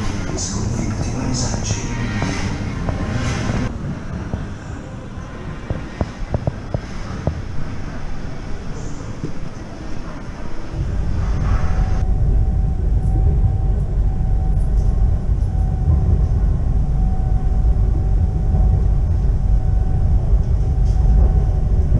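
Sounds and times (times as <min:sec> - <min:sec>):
train rumbling with faint whine: 0:00.0 - 0:21.9.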